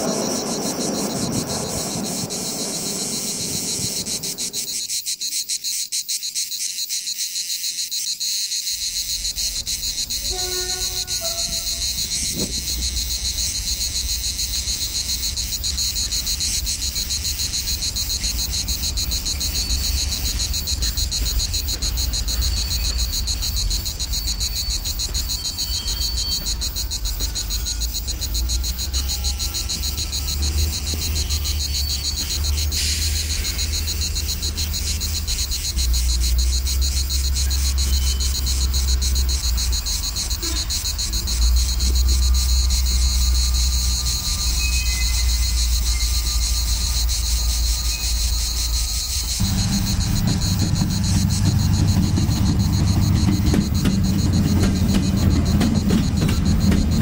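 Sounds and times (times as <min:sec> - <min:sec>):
diesel locomotive rumble: 0:00.0 - 0:04.9, 0:08.7 - 0:57.0
cicadas chorus: 0:00.0 - 0:57.0.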